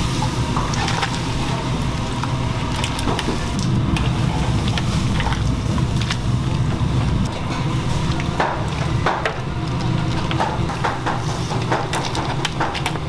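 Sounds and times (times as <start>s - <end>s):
water boiling in pot: 0.0s - 13.0s.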